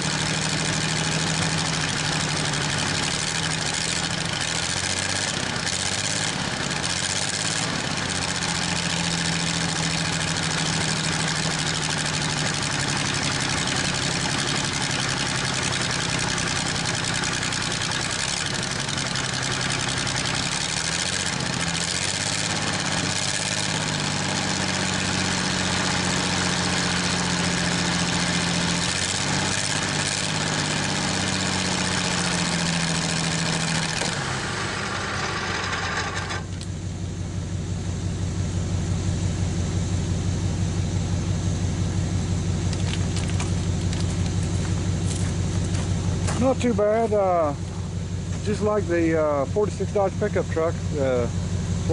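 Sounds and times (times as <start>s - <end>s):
engine rattle: 0.0s - 51.9s
tractor engine idling: 0.0s - 51.9s.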